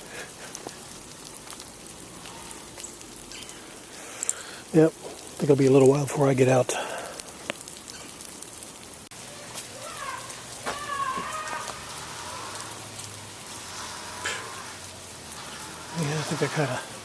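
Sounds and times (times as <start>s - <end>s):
water drops pattering: 0.0s - 17.0s.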